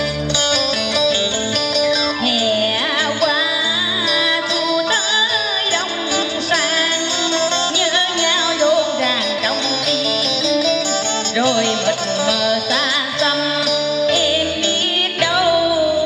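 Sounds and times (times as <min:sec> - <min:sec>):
instrumental accompaniment: 0:00.0 - 0:16.0
woman singing into a microphone: 0:01.5 - 0:16.0.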